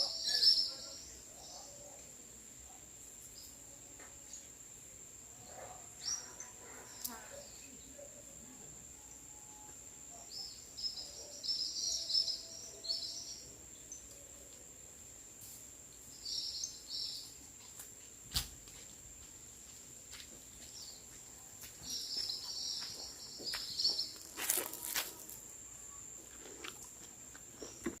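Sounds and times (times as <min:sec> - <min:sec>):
small birds chirping: 0:00.0 - 0:04.6, 0:05.3 - 0:28.0
high-pitched insect-like whine: 0:00.0 - 0:18.0, 0:20.7 - 0:26.4.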